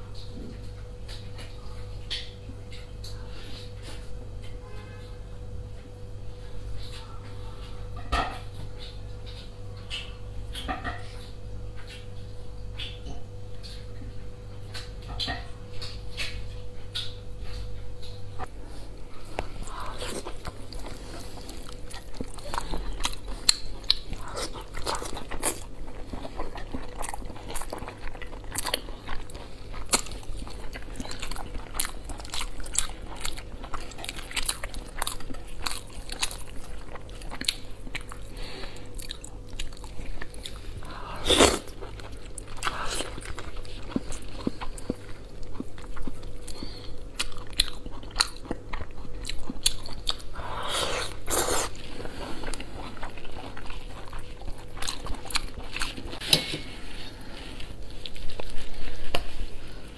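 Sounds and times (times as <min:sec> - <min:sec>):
faint steady hum: 0:00.0 - 0:59.9
person chewing meat: 0:08.7 - 0:59.9.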